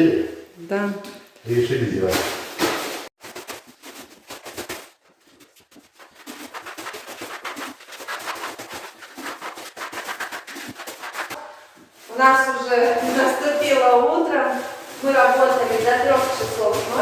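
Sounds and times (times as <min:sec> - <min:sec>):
plastic bag crinkling: 0:02.5 - 0:17.0.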